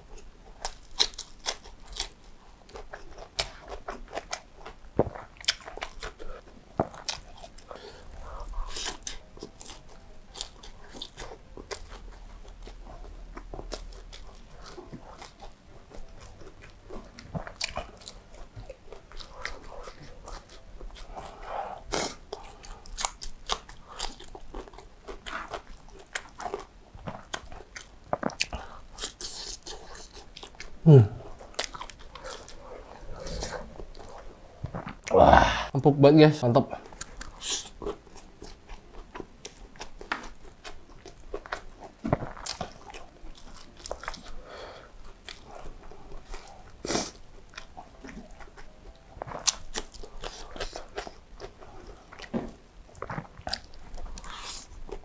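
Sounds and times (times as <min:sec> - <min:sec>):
wet chewing: 0:00.1 - 0:35.2, 0:36.8 - 0:55.0.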